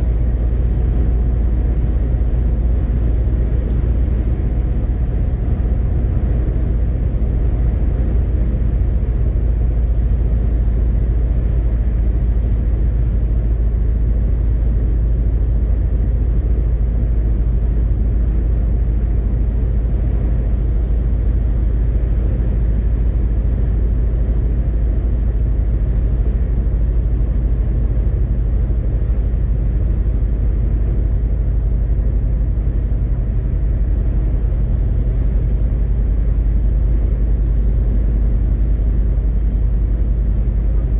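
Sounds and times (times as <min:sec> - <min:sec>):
road noise: 0:00.0 - 0:40.9
truck diesel engine droning: 0:00.0 - 0:40.9.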